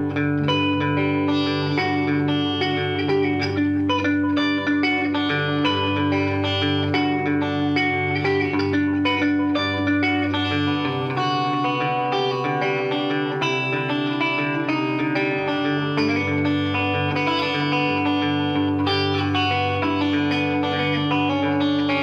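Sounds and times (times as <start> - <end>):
electric guitar picked notes: 0.0 - 22.0.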